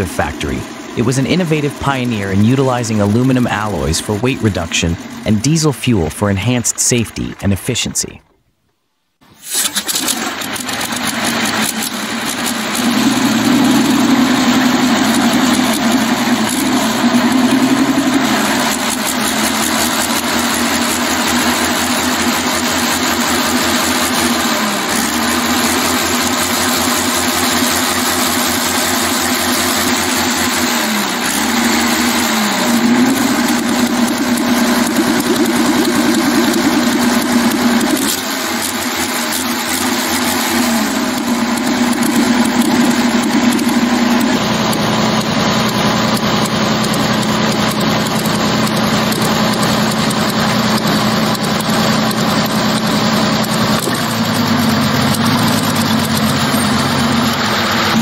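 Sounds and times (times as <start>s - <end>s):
tank diesel engine running: 0.0s - 8.2s, 9.4s - 58.0s.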